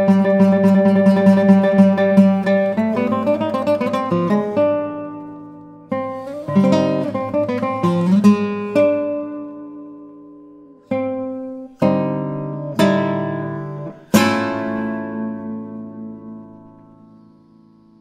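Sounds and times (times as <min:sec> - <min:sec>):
classical guitar playing: 0:00.0 - 0:18.0.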